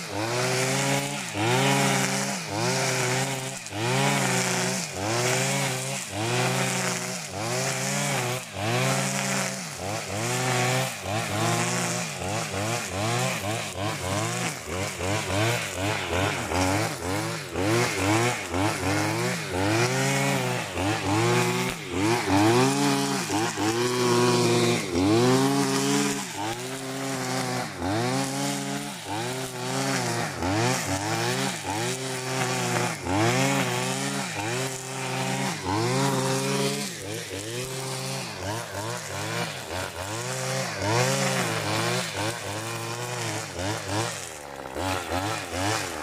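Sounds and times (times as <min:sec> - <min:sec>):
brush cutter cutting grass: 0:00.0 - 0:46.0.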